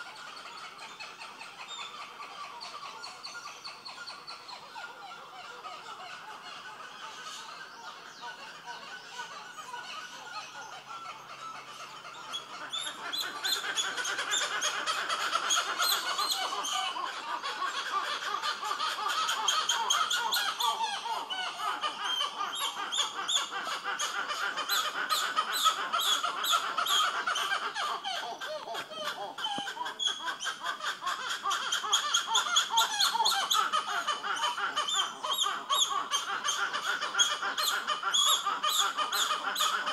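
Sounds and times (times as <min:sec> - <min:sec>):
monkeys chattering: 0:00.0 - 0:39.9.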